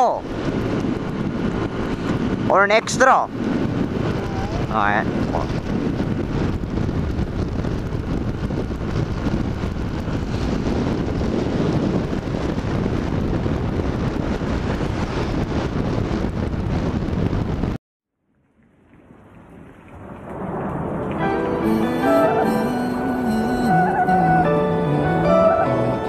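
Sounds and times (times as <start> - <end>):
wind rushing over microphone: 0.0 - 17.8, 18.9 - 26.0.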